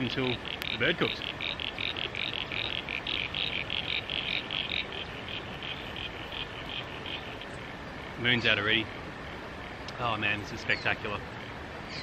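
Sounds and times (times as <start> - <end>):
frog chorus: 0.0 - 12.0.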